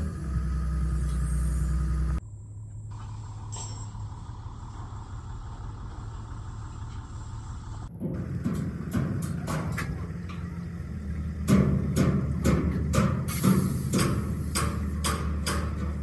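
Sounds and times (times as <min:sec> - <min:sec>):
steady engine hum: 0:00.0 - 0:16.0
truck engine rumble: 0:00.0 - 0:16.0.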